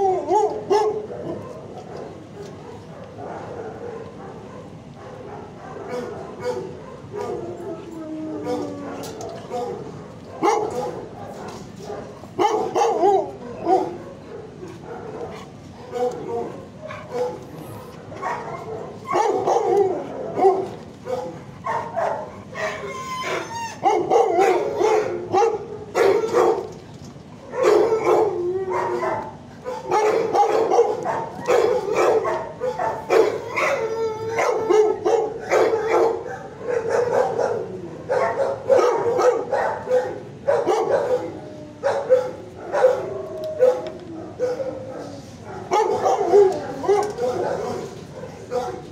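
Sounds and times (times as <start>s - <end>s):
dogs barking and yelping: 0.0s - 48.9s.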